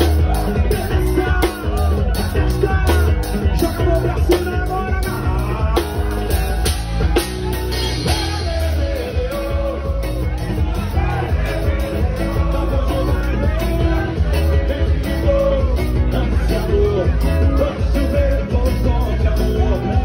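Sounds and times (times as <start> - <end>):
electric guitar: 0.0 - 20.0
man singing into microphone: 0.0 - 20.0
steady drum beat: 0.0 - 20.0.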